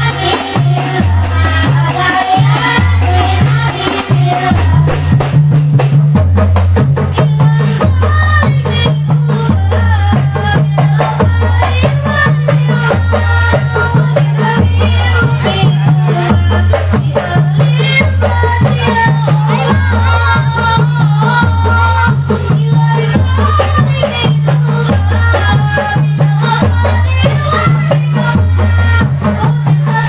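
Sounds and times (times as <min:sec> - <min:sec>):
girls singing in unison: 0:00.0 - 0:05.4, 0:07.0 - 0:30.0
bass drum: 0:00.0 - 0:30.0
hand drums: 0:00.0 - 0:30.0
jingling frame drums: 0:00.0 - 0:30.0.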